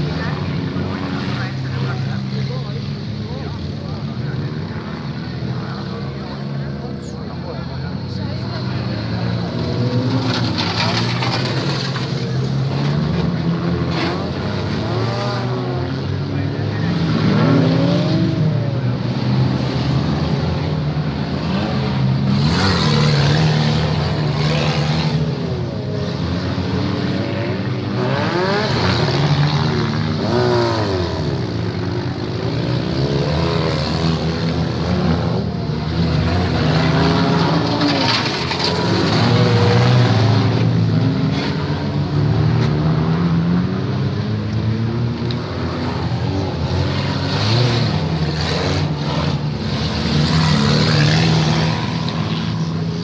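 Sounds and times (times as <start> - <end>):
car engines revving: 0.0 - 53.0.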